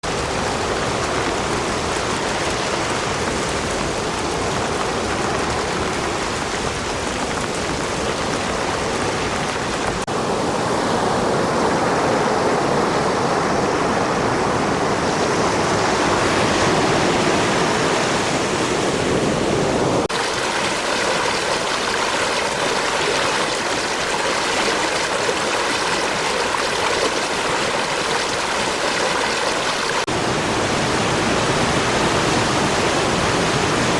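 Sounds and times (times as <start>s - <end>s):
beach surf: 0.0s - 33.9s
rain: 0.0s - 33.9s
running creek: 0.0s - 33.9s.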